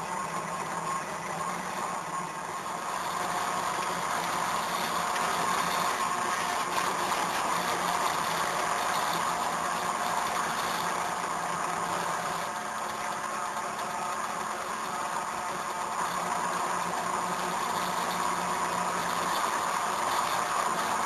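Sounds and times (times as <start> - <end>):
stepper motors humming: 0.0 - 21.0.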